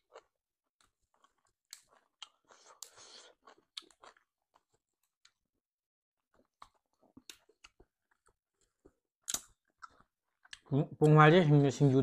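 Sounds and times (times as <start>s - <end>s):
people chewing and lip-smacking: 0.0s - 5.5s, 6.2s - 11.2s.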